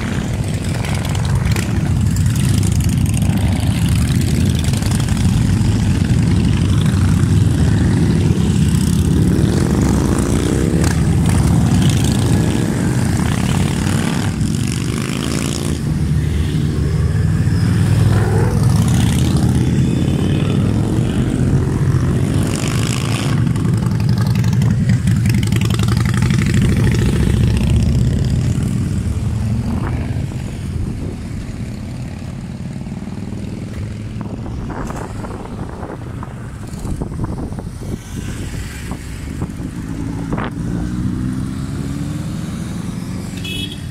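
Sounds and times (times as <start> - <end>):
motorcycles rumbling past: 0.0 - 43.9.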